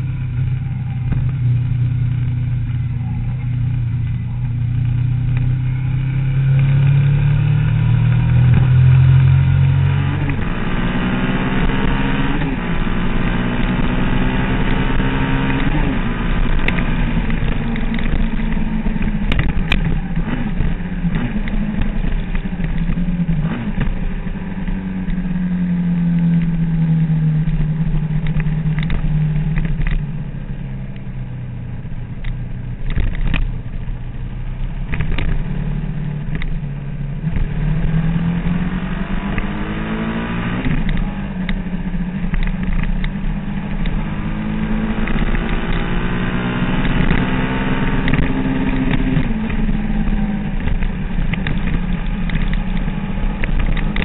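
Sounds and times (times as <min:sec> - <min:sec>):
motorcycle engine revving and shifting: 0:00.0 - 0:54.0.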